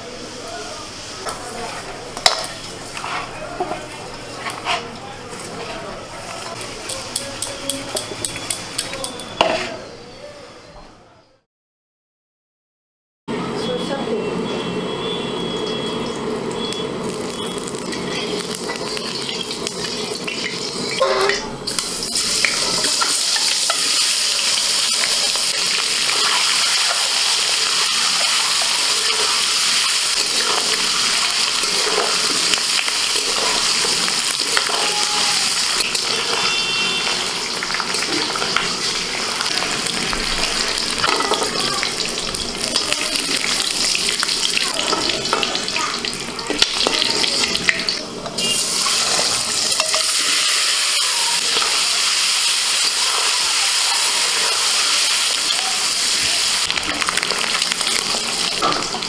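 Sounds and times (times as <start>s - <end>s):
eggs sizzling in oil: 0.0s - 8.9s, 14.9s - 59.0s
spatula scraping wok: 1.2s - 9.9s, 17.0s - 59.0s.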